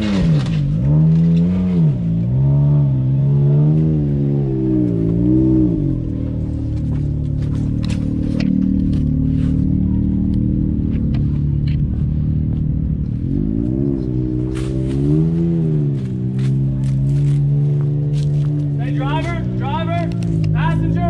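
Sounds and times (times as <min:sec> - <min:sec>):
utv engine revving: 0:00.0 - 0:21.0.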